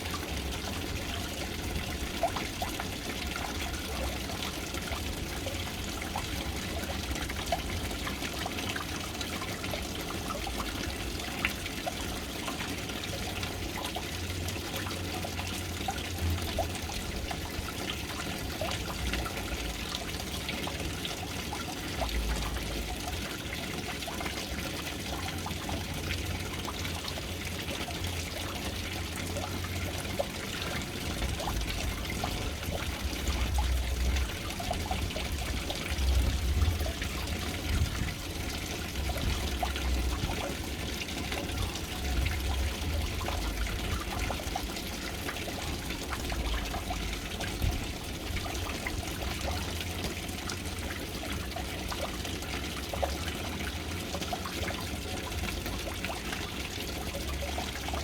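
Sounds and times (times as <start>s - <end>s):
water pouring into a tank: 0.0s - 58.0s.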